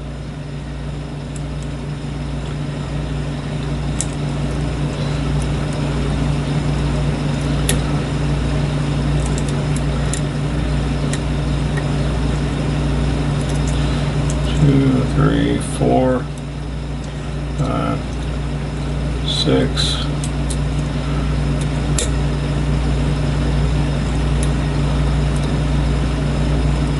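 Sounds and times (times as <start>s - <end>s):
low mechanical hum: 0.0s - 26.9s.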